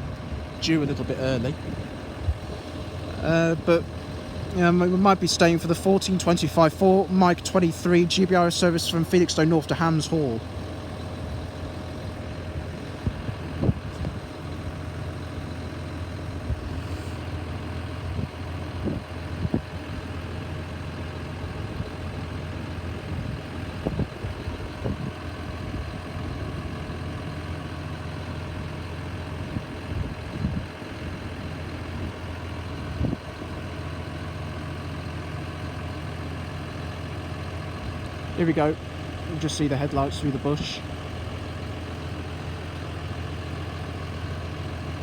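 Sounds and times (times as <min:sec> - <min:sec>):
vehicle engine idling: 0:00.0 - 0:45.0.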